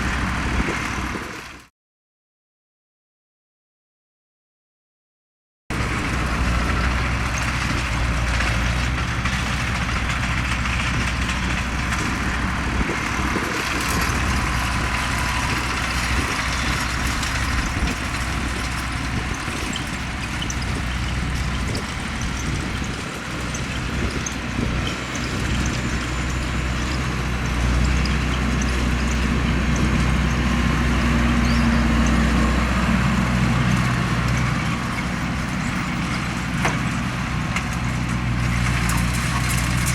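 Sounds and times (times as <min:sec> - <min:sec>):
tractor engine running: 0:00.0 - 0:01.6, 0:05.7 - 0:39.9.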